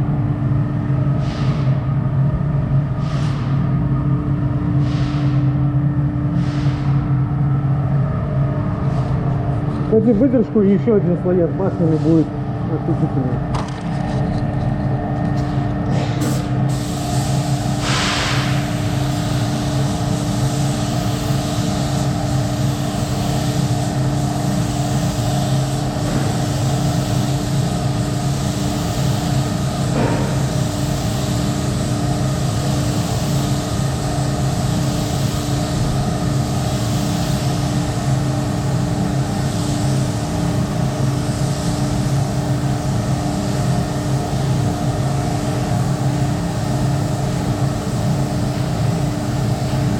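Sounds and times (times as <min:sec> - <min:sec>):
ventilation fan humming: 0:05.4 - 0:49.9.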